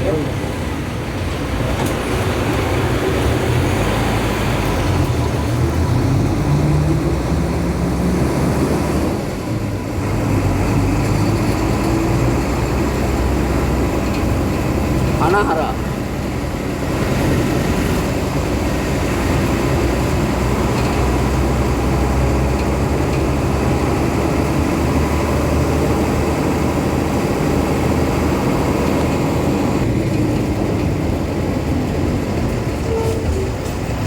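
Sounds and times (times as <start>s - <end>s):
road noise: 0.0s - 34.0s
vehicle engine rumble: 0.0s - 34.0s.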